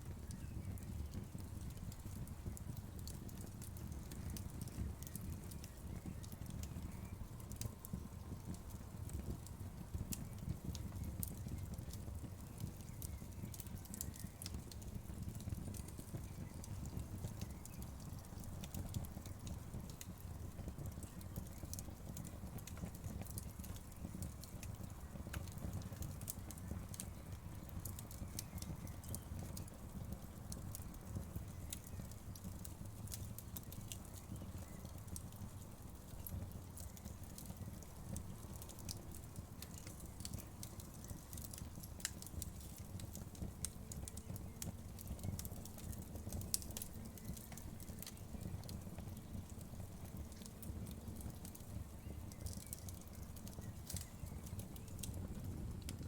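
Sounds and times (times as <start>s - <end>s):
fire flames rumbling: 0.0s - 56.0s
wood fire pops and snaps: 0.0s - 56.0s.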